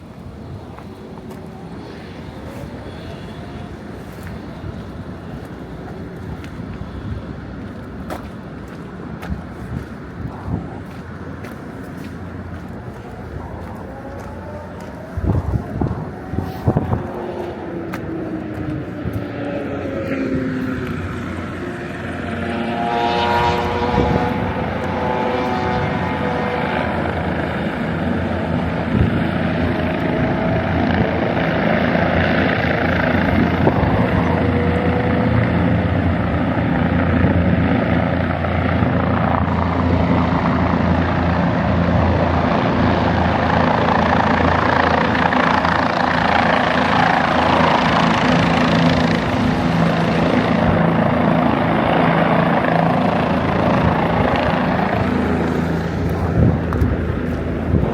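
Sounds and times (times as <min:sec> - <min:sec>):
low engine drone: 0:00.0 - 0:57.9.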